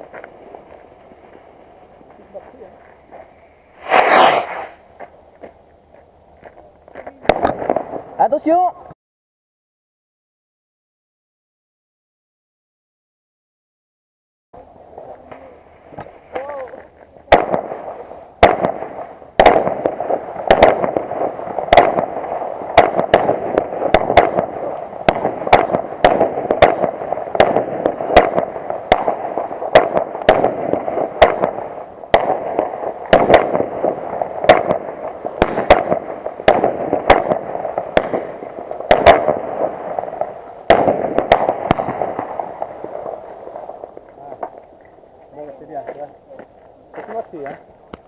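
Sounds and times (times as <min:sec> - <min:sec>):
firework bangs: 0:00.0 - 0:05.6, 0:07.0 - 0:08.5, 0:14.8 - 0:48.0
rushing hiss of burning fireworks: 0:00.0 - 0:08.6, 0:14.6 - 0:48.0.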